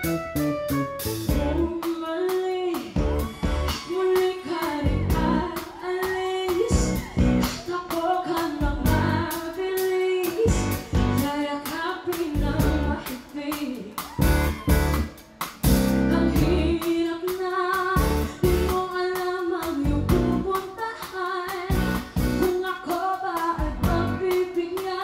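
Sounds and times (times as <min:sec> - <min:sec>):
drum kit: 0:00.0 - 0:25.0
woman singing: 0:01.3 - 0:15.2, 0:15.9 - 0:25.0.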